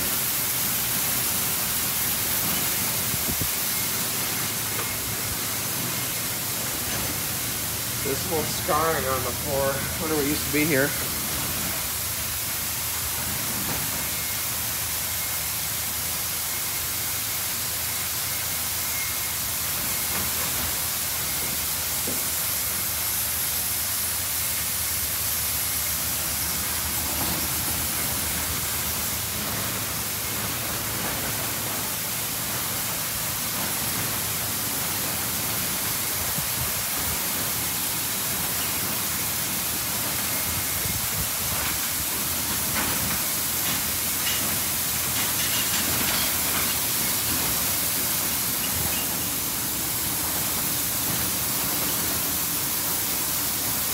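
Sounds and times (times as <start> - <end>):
water spray hissing: 0.0 - 53.9.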